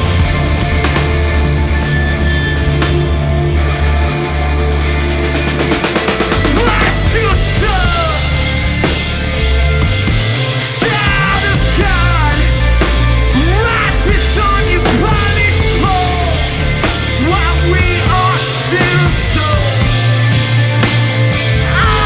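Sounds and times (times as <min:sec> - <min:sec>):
punk rock band playing live: 0:00.0 - 0:22.0.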